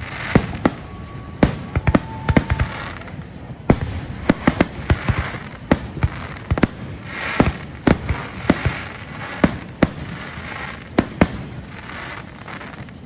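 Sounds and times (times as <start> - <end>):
crackling hiss: 0.0 - 13.0
fireworks booming bangs: 0.0 - 13.0.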